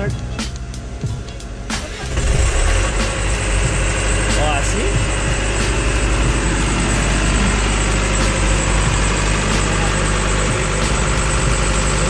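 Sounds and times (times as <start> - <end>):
generator low hum: 0.0 - 12.0.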